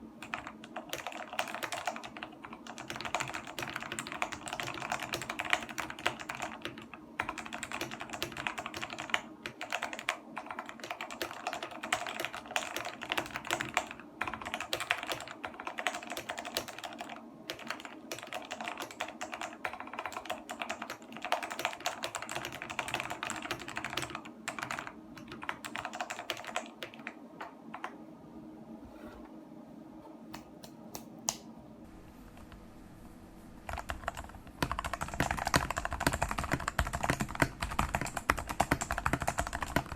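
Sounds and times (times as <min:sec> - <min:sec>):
mechanical keyboard typing: 0:00.2 - 0:28.0, 0:33.7 - 0:39.9.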